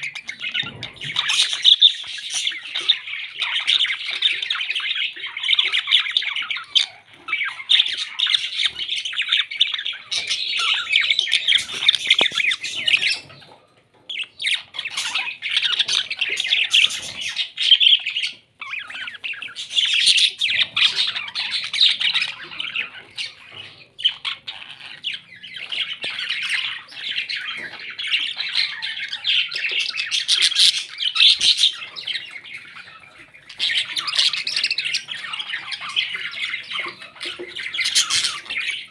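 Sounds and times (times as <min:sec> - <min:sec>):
parrots chattering and squawking: 0:00.0 - 0:38.9.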